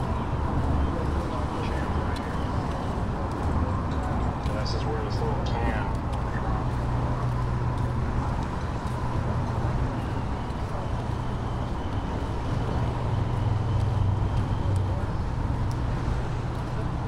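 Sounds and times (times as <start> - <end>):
low rumble of engines: 0.0 - 17.0.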